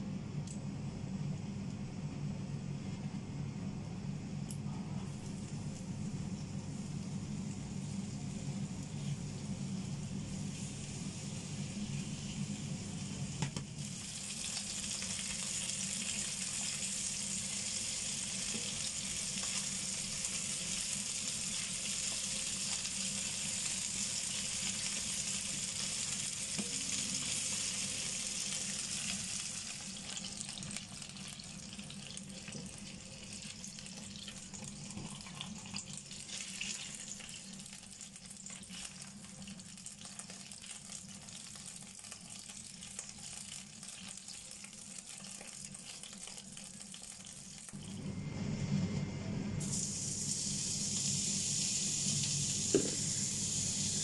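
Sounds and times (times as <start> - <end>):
chicken wings sizzling in oil: 5.1 - 47.9, 49.6 - 54.0.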